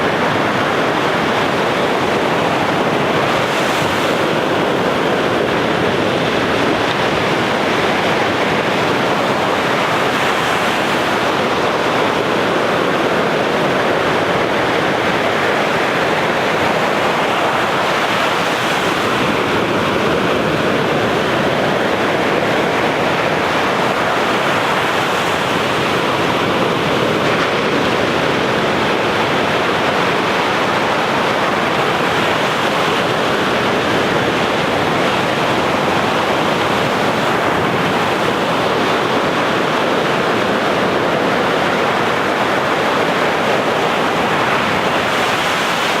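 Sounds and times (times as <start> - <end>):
waves breaking on shore: 0.0 - 46.0.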